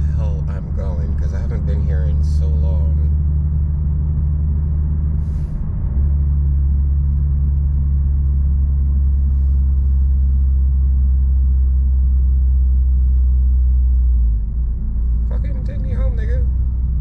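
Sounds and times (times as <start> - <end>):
car engine drone in cabin: 0.0 - 17.0.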